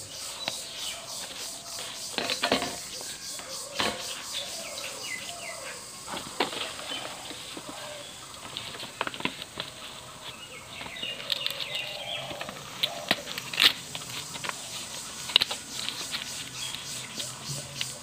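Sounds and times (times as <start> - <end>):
banana leaf rustling and crackling: 0.0 - 18.0
birds chirping: 0.0 - 18.0.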